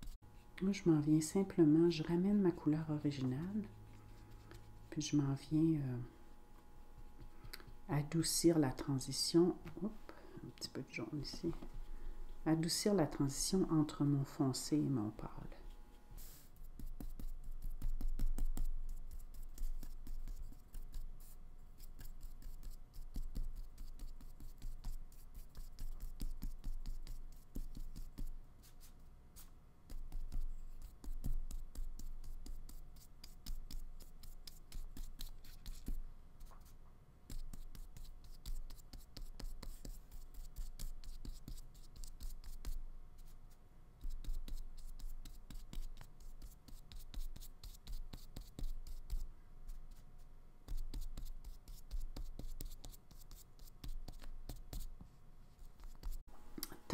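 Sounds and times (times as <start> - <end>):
soft scratchy brush strokes: 0.0 - 56.9.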